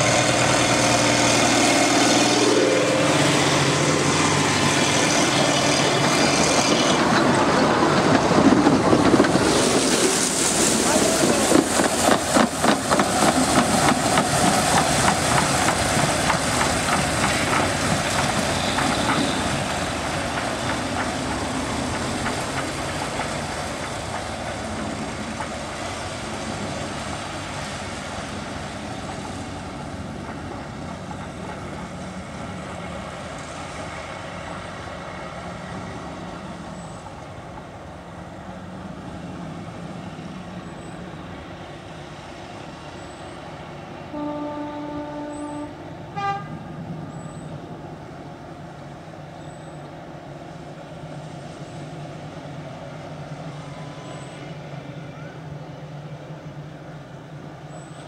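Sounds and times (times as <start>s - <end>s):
diesel locomotive engines: 0.0s - 58.0s
train wheel noise: 0.0s - 58.0s.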